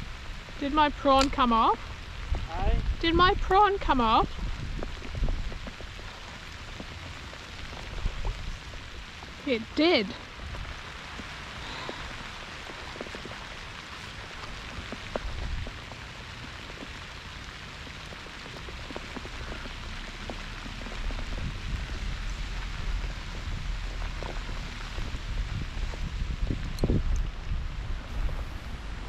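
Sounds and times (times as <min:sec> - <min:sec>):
pouring rain: 0:00.0 - 0:29.0.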